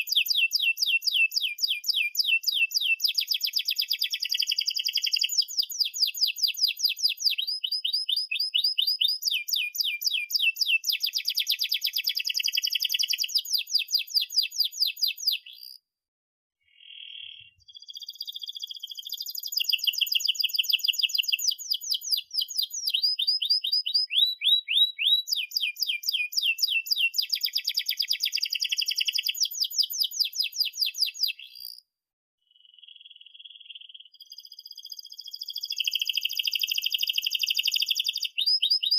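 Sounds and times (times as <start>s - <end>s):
canary singing trills: 0.0s - 15.8s, 16.6s - 31.8s, 32.6s - 38.9s.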